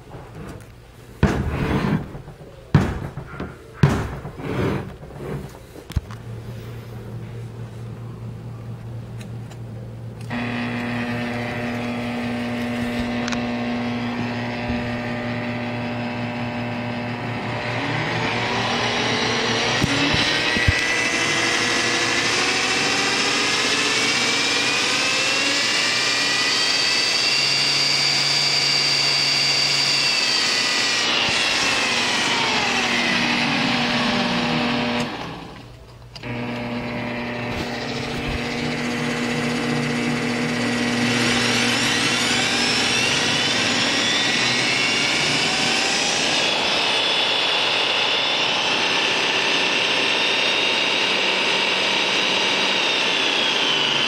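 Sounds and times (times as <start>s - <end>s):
drill press motor whine: 10.2s - 54.0s.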